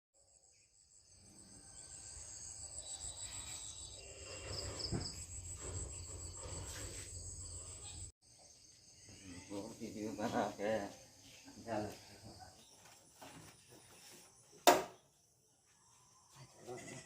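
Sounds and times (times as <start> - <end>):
crickets chirping: 0.2 - 17.0.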